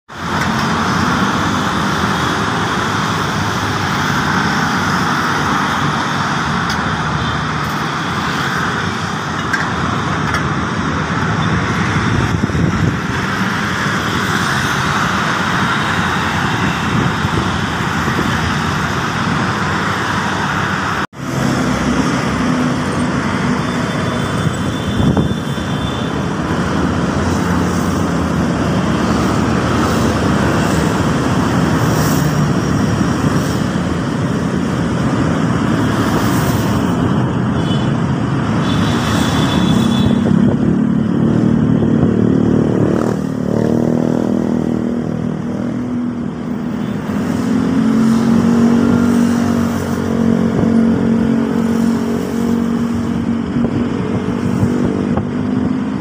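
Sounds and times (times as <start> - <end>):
motorcycles and cars passing: 0.1 - 56.0.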